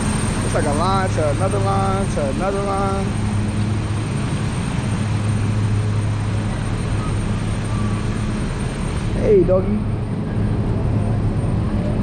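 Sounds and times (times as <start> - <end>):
low mechanical hum: 0.0 - 12.0
outdoor noise: 0.0 - 12.0.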